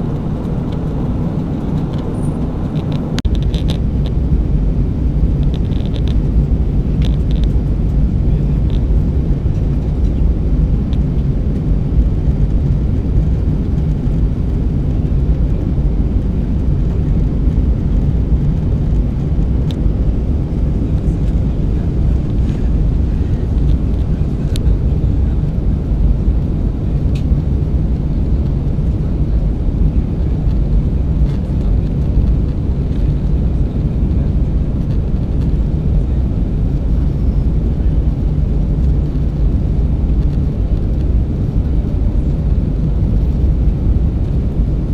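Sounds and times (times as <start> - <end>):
airplane cabin rumble: 0.0 - 44.9.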